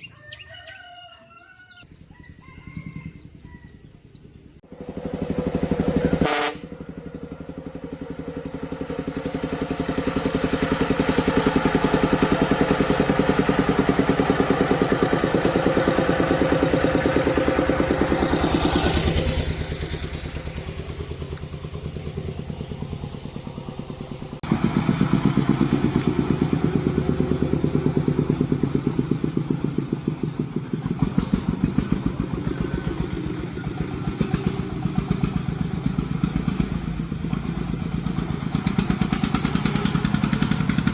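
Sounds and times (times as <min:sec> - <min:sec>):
vehicle engine running: 0:01.8 - 0:40.9.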